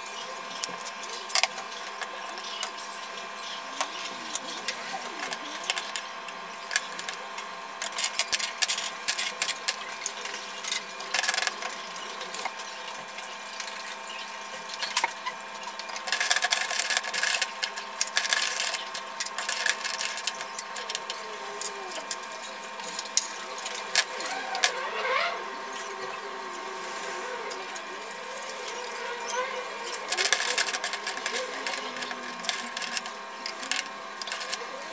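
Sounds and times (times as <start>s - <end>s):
steady hum: 0.0s - 34.9s
water boiling in a saucepan: 0.0s - 34.9s.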